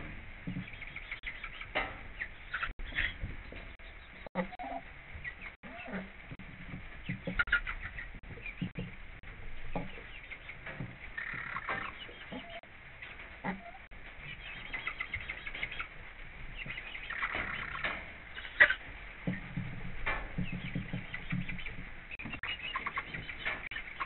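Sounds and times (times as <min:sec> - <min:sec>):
hens clucking softly: 0:00.0 - 0:24.0
hens pecking and scratching litter: 0:00.0 - 0:24.0.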